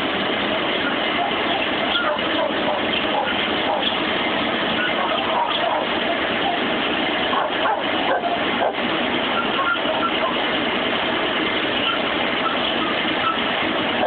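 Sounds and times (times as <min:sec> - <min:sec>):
engine running with ticking clacking: 0:00.0 - 0:14.0.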